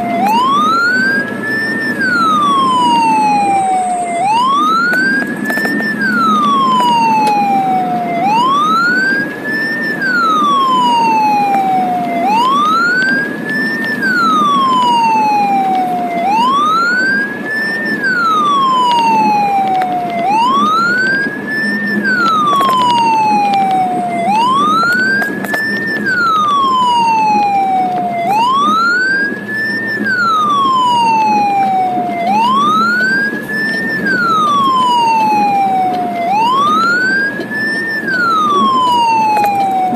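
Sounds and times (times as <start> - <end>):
ambulance siren wailing: 0.0 - 39.9
low rumble of moving vehicle: 0.0 - 39.9.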